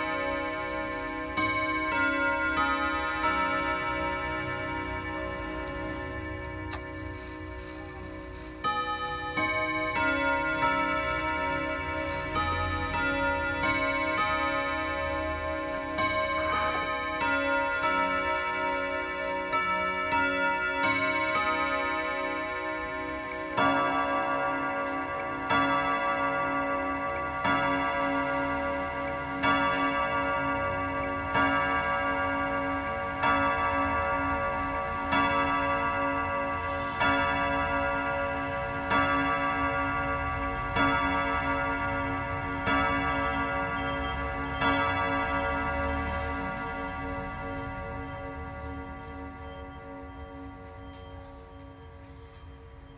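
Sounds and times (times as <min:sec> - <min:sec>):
clock chime notes: 0:00.0 - 0:52.9
clock gong strikes: 0:00.0 - 0:52.9
clock ticking: 0:00.0 - 0:52.9.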